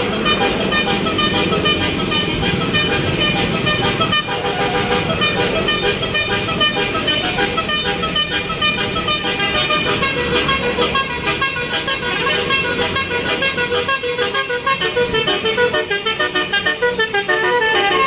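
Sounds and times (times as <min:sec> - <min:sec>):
bus horn playing melody: 0:00.0 - 0:18.0
bus rumble: 0:00.0 - 0:18.0.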